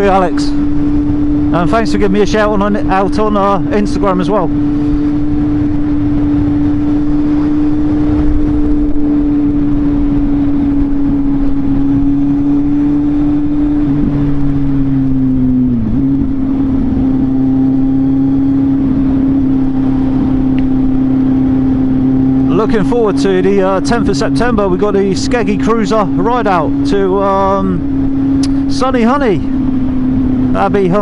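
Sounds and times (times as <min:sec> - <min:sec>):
motorcycle engine cruising: 0:00.0 - 0:31.0.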